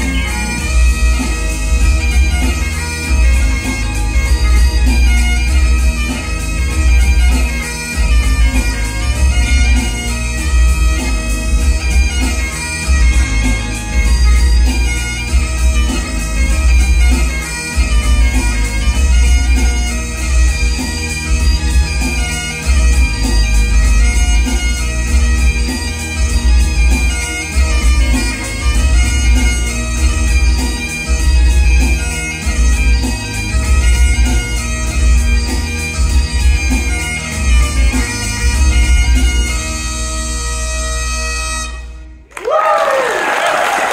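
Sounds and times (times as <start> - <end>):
bagpipe playing: 0.0 - 42.3.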